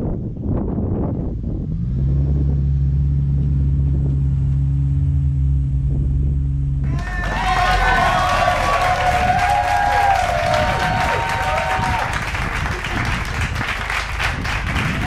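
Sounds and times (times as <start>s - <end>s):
car engine droning under load: 0.0s - 15.0s.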